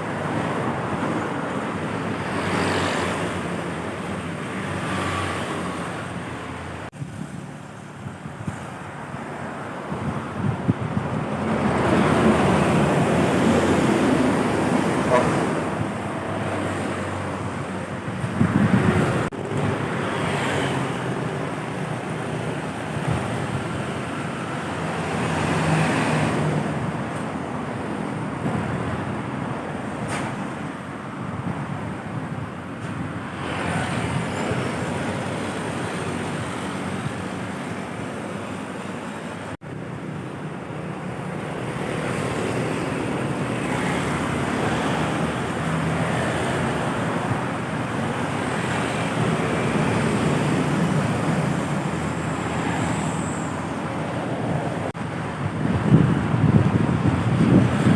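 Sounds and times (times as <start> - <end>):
heavy traffic passing: 0.0 - 57.9.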